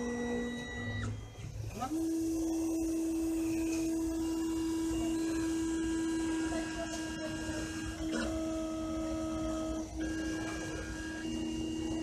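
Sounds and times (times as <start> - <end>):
engraving machine whining: 0.0 - 12.0.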